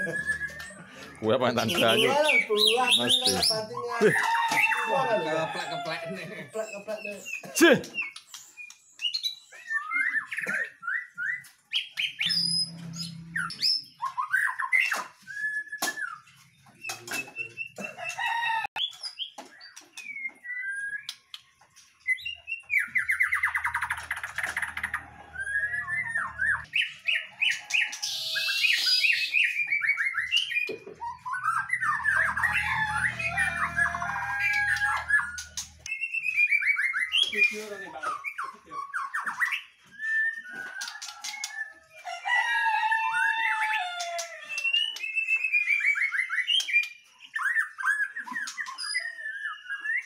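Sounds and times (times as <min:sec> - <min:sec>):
songbird singing: 0:00.0 - 0:42.2.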